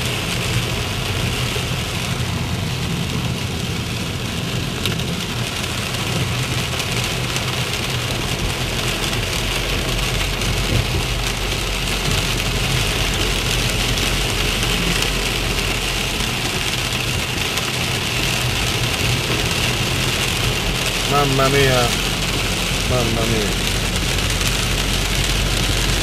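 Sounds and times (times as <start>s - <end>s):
car engine low hum: 0.0s - 26.0s
heavy rain on a car: 0.0s - 26.0s.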